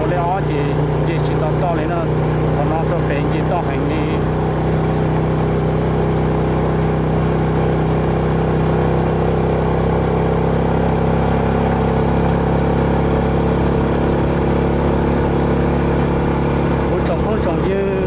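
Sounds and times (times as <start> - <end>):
gravel road noise: 0.0 - 18.0
vehicle engine running: 0.0 - 18.0.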